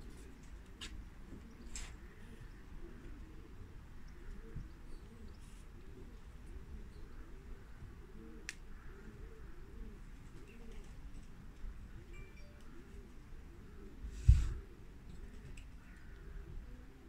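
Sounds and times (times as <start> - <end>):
pigeons cooing: 0.0 - 12.1, 12.7 - 17.0.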